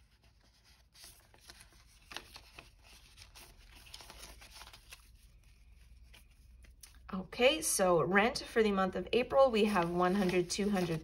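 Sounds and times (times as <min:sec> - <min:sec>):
banknotes crinkling and rustling: 0:00.0 - 0:07.1, 0:09.2 - 0:11.0.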